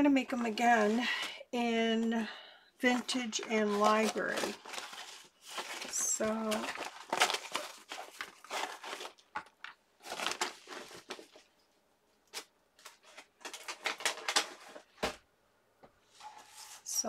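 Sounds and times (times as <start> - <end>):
plastic folder and paper rustling: 0.3 - 1.4, 2.8 - 11.6, 12.3 - 15.2, 16.0 - 17.0.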